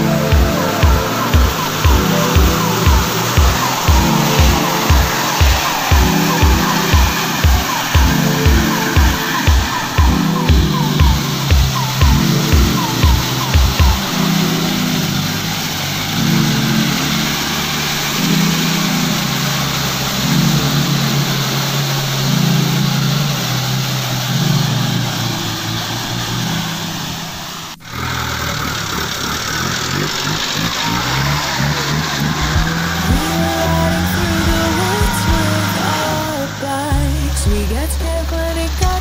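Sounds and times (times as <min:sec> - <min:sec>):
loud steady rushing noise: 0:00.0 - 0:39.0
vehicle engine driving off-road: 0:00.0 - 0:39.0.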